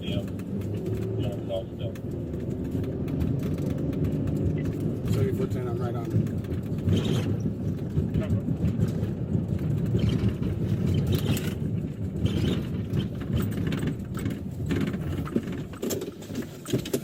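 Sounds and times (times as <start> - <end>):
knocks and rattles: 0.0 - 17.0
road noise: 0.0 - 17.0
vehicle engine rumble: 0.0 - 17.0.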